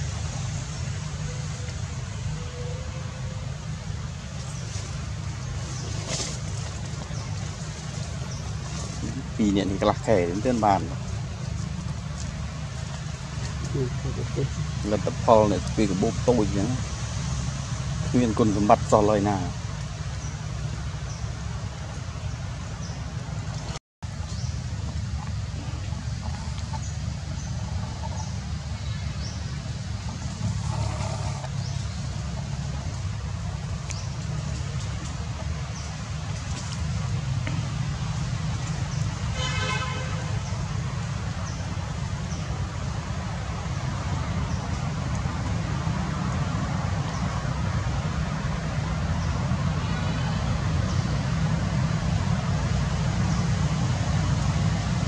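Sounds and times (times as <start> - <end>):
low outdoor rumble: 0.0 - 55.0.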